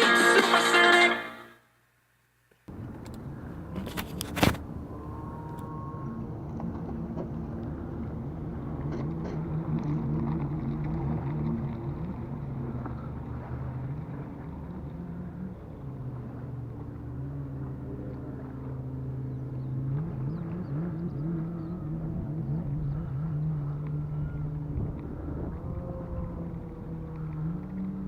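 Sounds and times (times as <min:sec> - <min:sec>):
vehicle engine running: 0:02.7 - 0:28.0.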